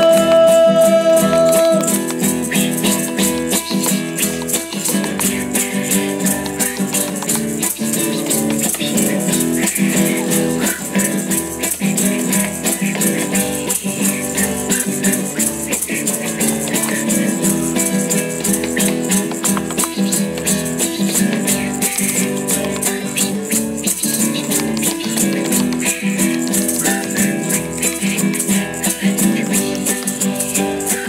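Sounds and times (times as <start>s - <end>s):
plucked strings: 0.0s - 31.0s
shaker rhythm: 0.0s - 31.0s.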